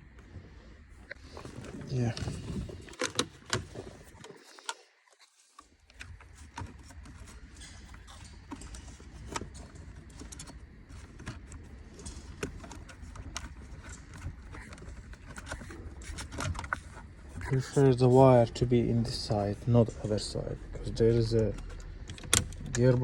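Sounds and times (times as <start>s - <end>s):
steady low hum: 0.0s - 4.6s, 5.6s - 23.0s.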